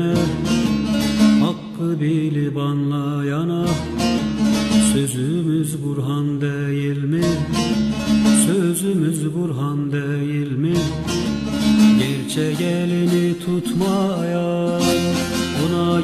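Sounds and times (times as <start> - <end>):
plucked long-necked lute melody: 0.0 - 16.0.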